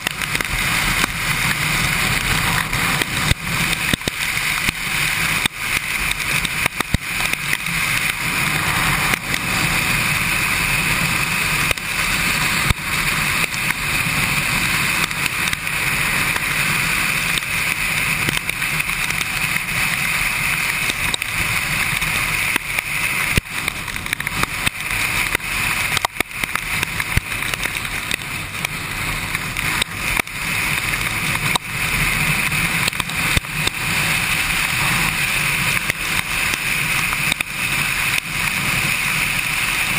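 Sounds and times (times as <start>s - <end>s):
motorcycle engine running: 0.0s - 39.9s
raindrops ticking on camera: 0.0s - 39.9s
tyre spray and rain hiss: 0.0s - 39.9s.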